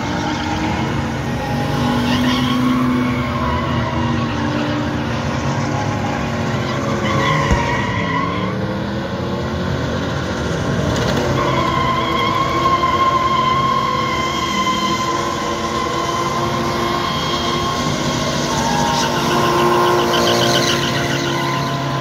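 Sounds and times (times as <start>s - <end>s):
car engines revving: 0.0s - 22.0s
tires squealing: 0.0s - 22.0s.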